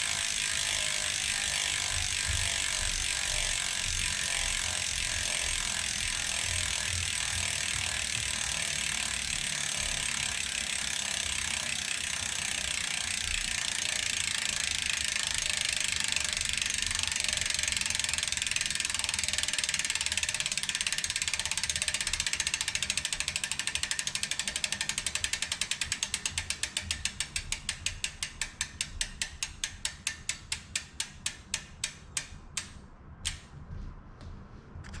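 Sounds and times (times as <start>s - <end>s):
bicycle hub ratcheting buzz: 0.0s - 33.4s.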